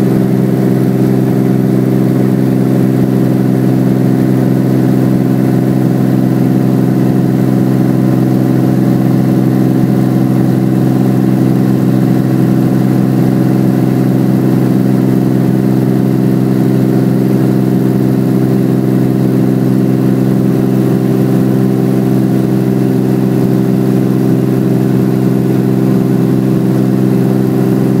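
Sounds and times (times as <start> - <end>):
helicopter engine and rotor drone: 0.0 - 28.0.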